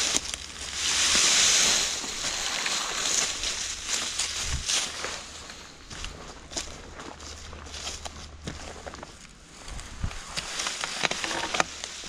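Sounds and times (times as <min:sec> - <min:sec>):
footsteps through dry leaves: 0:00.0 - 0:12.0.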